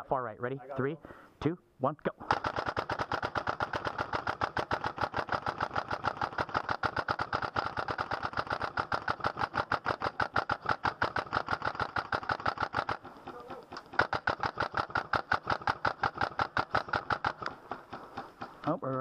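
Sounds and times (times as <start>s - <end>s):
airsoft rifles firing rapidly: 2.2s - 19.0s.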